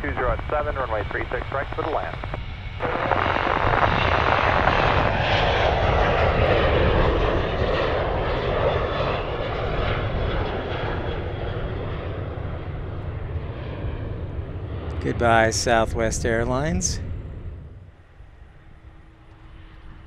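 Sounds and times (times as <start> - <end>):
jet engines roaring at takeoff: 0.0 - 20.0.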